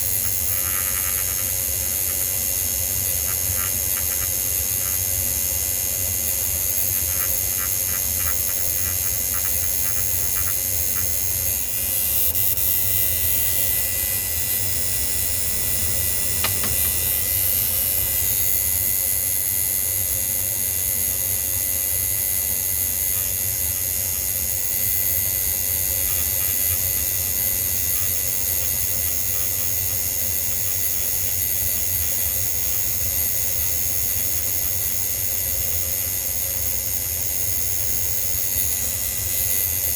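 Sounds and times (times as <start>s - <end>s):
machine hiss and hum: 0.0s - 39.9s.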